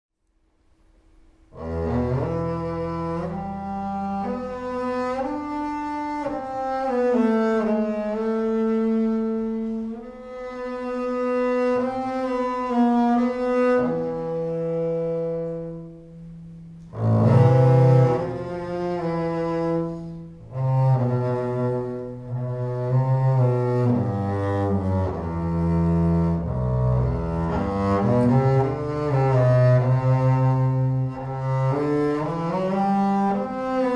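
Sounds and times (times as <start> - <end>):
bowed double bass: 0.7 - 33.9.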